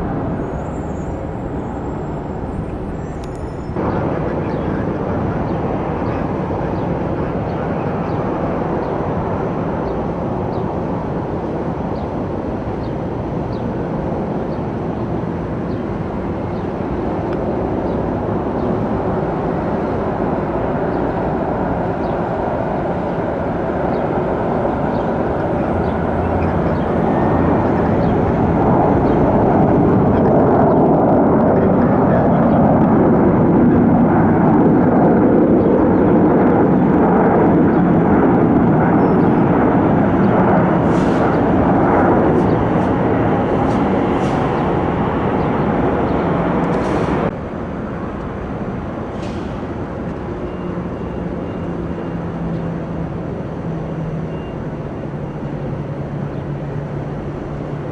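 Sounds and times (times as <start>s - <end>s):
jet engines rushing: 0.0s - 57.9s.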